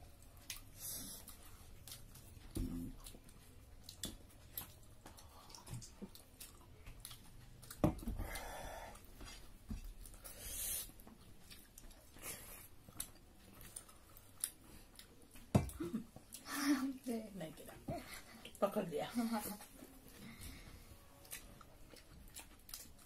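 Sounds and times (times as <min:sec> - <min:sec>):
chewing and mouth sounds: 0:00.0 - 0:17.1, 0:19.6 - 0:23.0.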